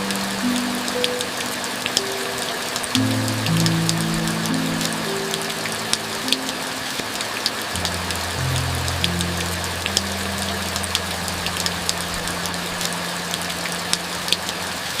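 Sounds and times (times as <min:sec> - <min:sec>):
heavy rain falling: 0:00.0 - 0:15.0
soft background music: 0:00.0 - 0:15.0.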